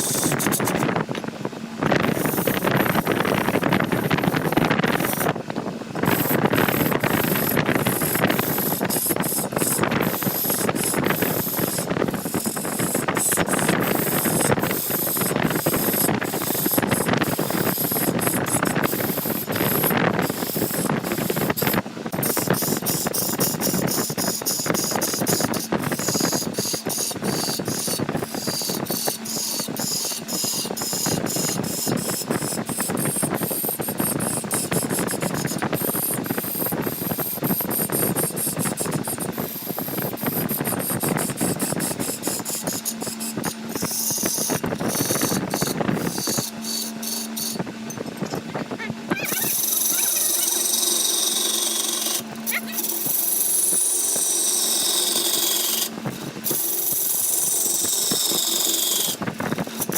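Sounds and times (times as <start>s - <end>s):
woodworking machine cutting wood: 0.0s - 59.9s.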